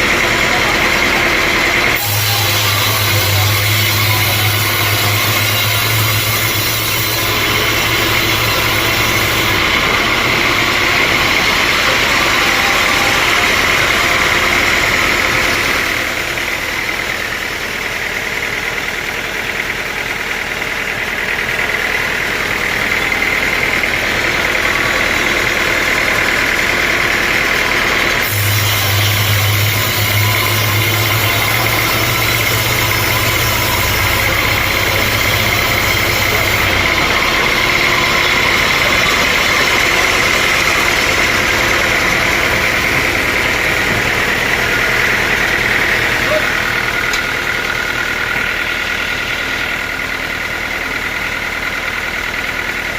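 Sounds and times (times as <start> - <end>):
saw high whine: 0.0 - 52.9.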